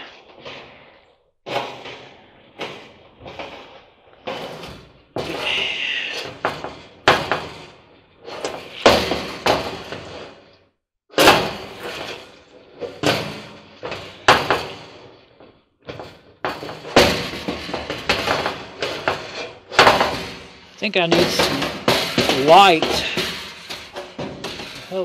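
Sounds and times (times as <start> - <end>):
metal knocks and clanks on sheet metal: 1.5 - 10.5, 11.1 - 25.0.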